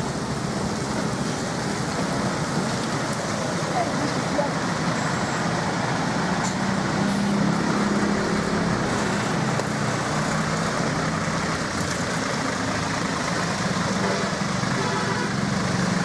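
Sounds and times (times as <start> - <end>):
bus engines running: 0.0 - 16.0
traffic noise: 0.0 - 16.0.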